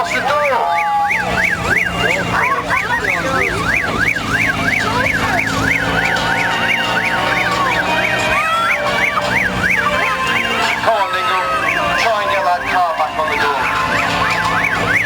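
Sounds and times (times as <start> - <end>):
yelp siren: 0.0 - 15.0.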